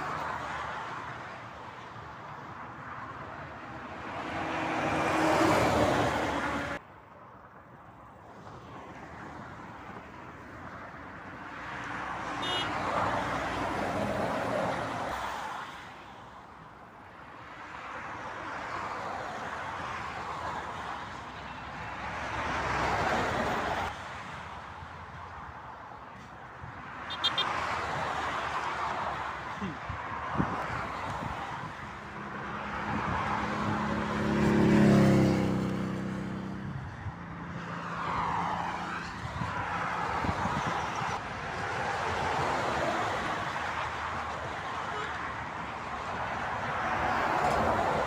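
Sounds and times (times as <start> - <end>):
traffic passing close by: 0.0 - 48.0.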